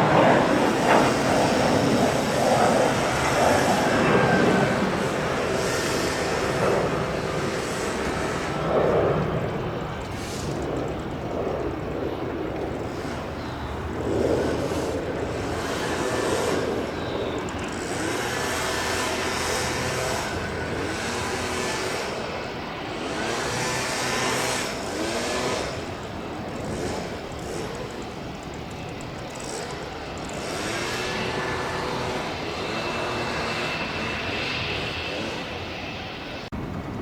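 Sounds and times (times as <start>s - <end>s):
jet airliner engine: 0.0s - 37.0s.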